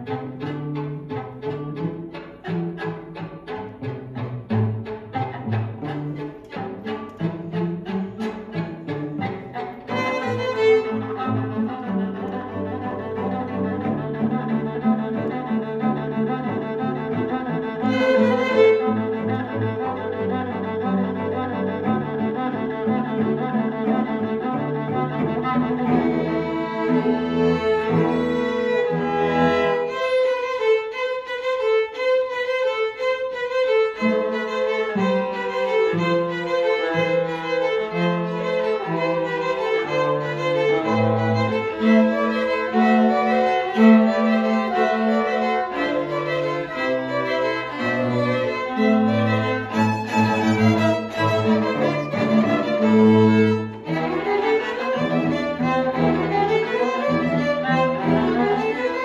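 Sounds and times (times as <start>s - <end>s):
cello playing: 0.0s - 59.0s
violins playing melody: 0.0s - 59.0s.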